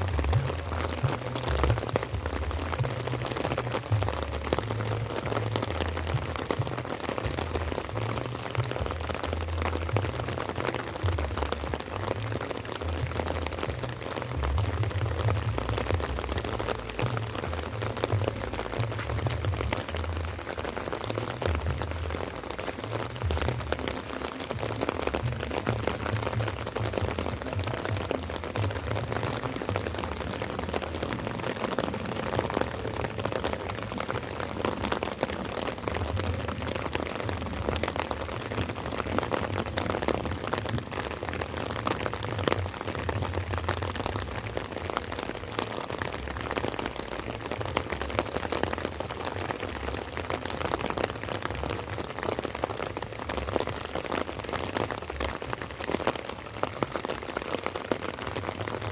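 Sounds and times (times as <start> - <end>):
light rain patter: 0.0 - 58.9.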